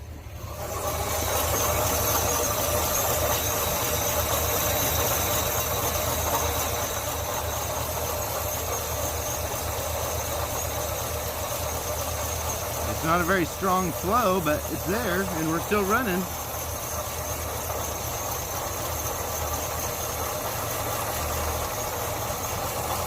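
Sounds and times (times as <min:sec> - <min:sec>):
bus engine running: 0:00.0 - 0:23.0.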